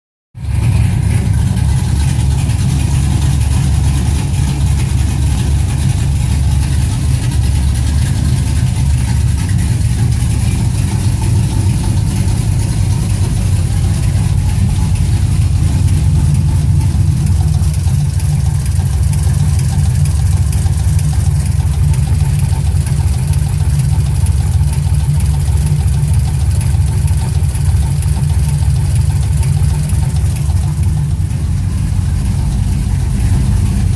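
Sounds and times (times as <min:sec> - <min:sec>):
engine idling with knock: 0:00.4 - 0:33.9.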